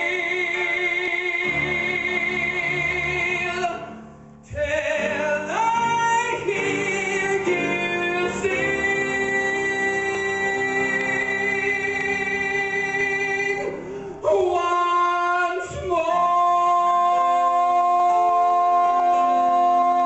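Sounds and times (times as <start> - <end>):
musical accompaniment: 0.0 - 20.0.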